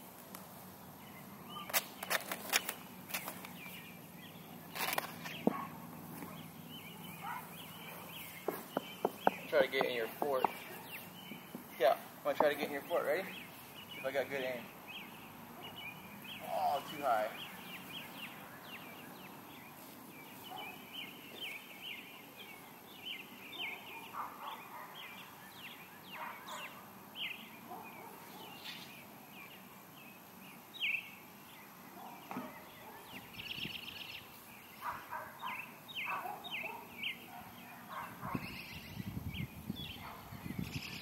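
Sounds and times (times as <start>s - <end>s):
birds chirping and singing: 0.7s - 41.0s.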